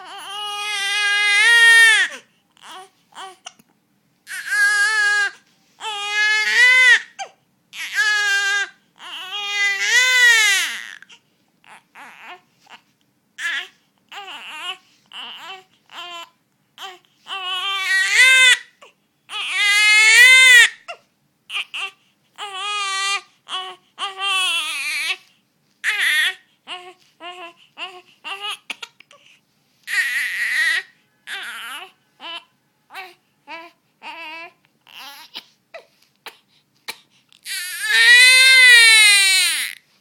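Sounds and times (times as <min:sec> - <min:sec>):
baby crying: 0:00.0 - 0:03.6, 0:04.2 - 0:12.8, 0:13.4 - 0:29.3, 0:29.9 - 0:39.8.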